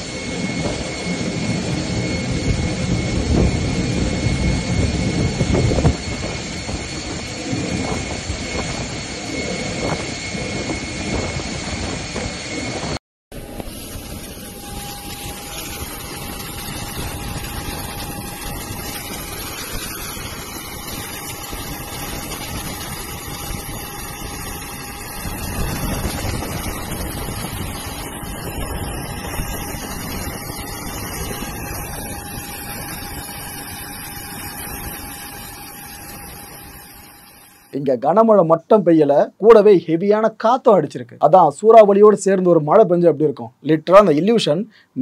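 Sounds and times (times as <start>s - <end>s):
storm wind: 0.0s - 40.3s
thin steady whine: 0.0s - 44.8s.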